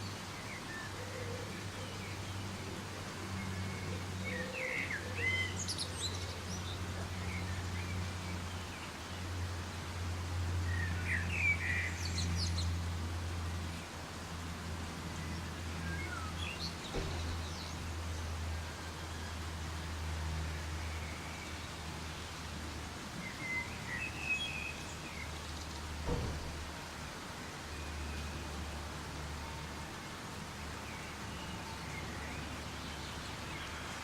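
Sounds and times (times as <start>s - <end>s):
soft rain hiss: 0.0s - 34.0s.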